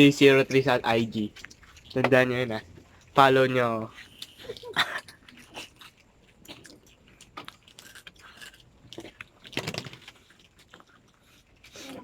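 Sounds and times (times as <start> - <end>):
chewing crunchy snack: 0.4 - 3.2, 3.8 - 12.0.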